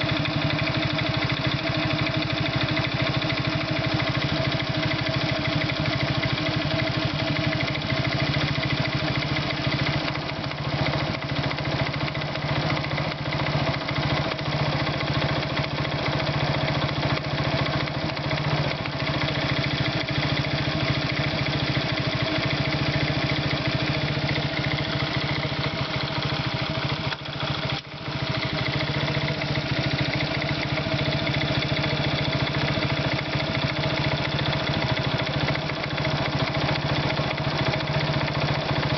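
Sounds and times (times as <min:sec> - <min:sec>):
moped engine idling with knock: 0:00.0 - 0:38.9.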